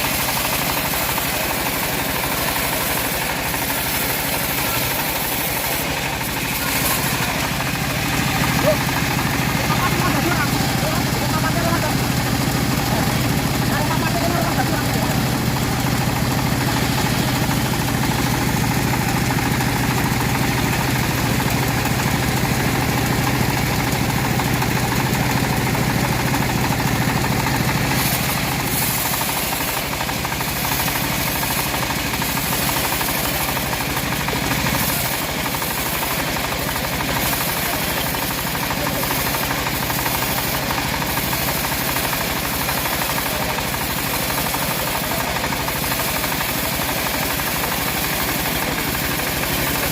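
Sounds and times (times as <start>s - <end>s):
chainsaw cutting through log: 0.0s - 49.9s.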